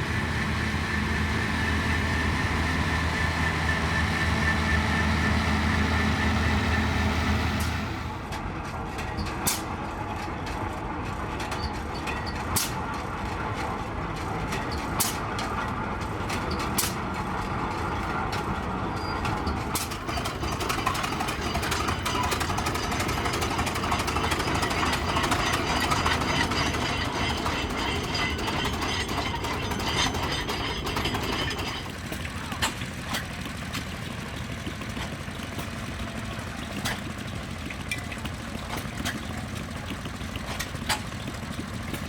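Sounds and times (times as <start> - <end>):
machinery engine rumble: 0.0 - 8.9, 12.8 - 42.0.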